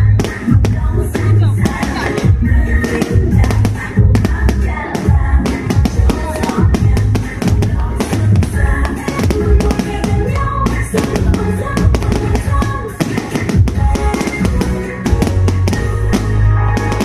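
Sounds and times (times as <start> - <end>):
loud music with drum beat: 0.0 - 17.0.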